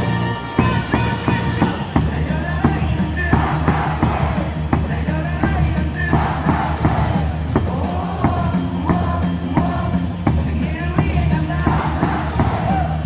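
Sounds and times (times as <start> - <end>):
loud amplified music with beat: 0.0 - 13.0
stadium crowd singing: 0.0 - 13.0.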